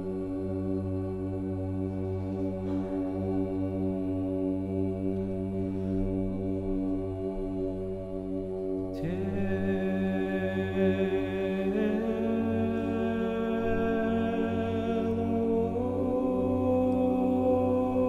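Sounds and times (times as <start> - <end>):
low drone: 0.0 - 18.0.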